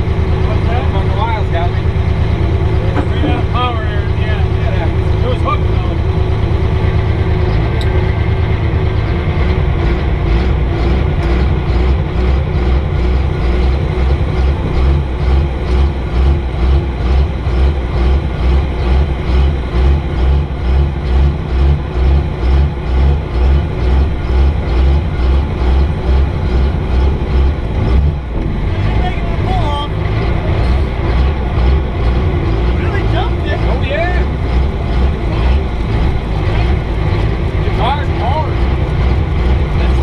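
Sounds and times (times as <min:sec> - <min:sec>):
diesel truck engine running hard: 0:00.0 - 0:40.0.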